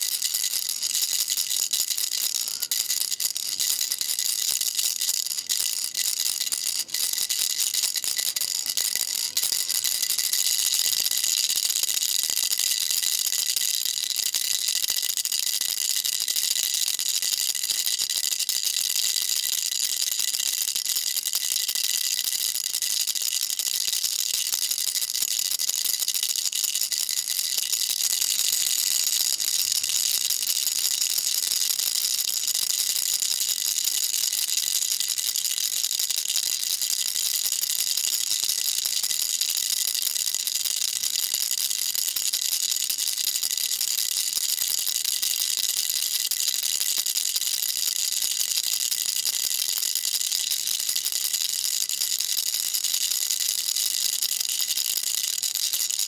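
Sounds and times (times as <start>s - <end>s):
baby rattle shaken: 0.0s - 55.9s.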